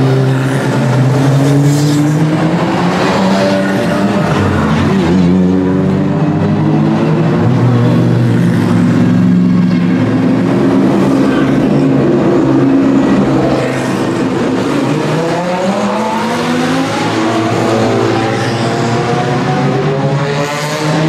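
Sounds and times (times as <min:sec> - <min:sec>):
race car engines at low speed: 0:00.0 - 0:21.0.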